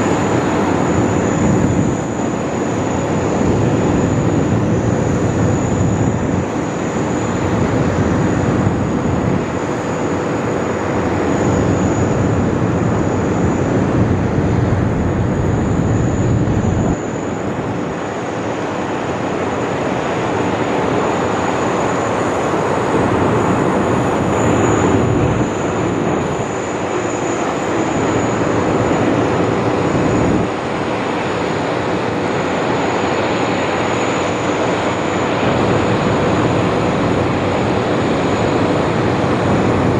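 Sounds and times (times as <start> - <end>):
jet airliner flying: 0.0 - 39.9.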